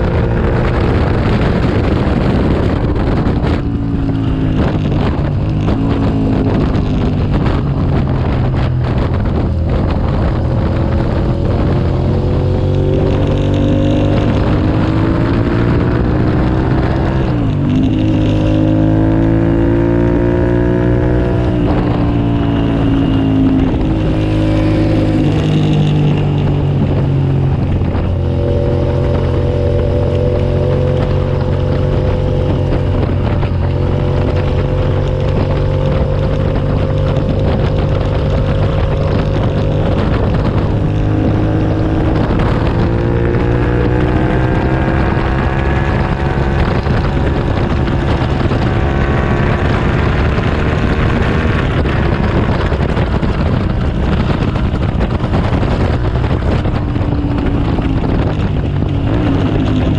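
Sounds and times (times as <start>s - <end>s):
motorcycle engine at full throttle: 0.0s - 59.9s.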